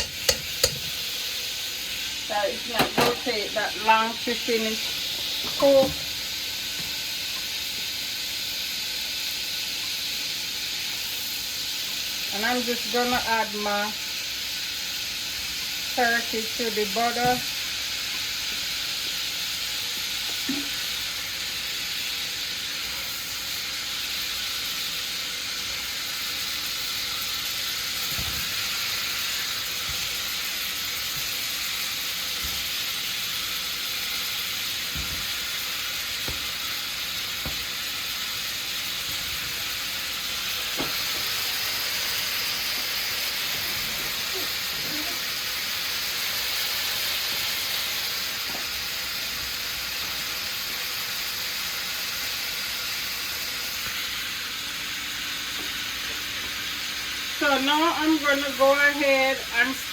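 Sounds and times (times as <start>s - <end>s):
meat sizzling in butter: 0.0s - 59.9s.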